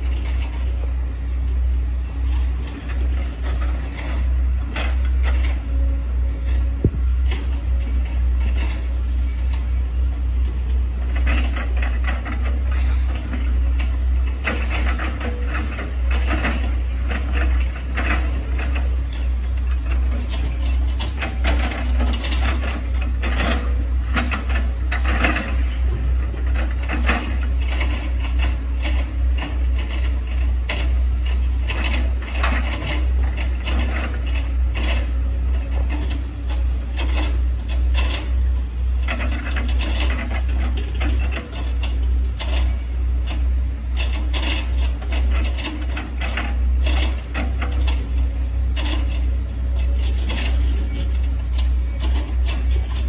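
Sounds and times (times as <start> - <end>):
excavator diesel engine under load: 0.0 - 53.0.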